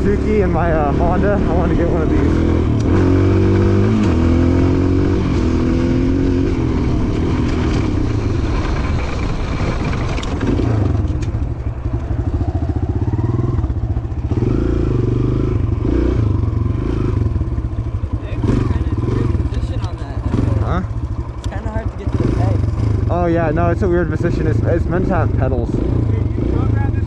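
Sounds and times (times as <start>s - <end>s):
pit bike engine revving: 0.0s - 27.0s.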